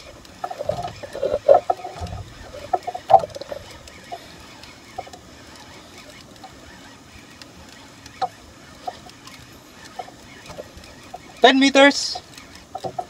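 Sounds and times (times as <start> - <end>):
fishing reel squeaking and ticking: 0.0 - 13.0.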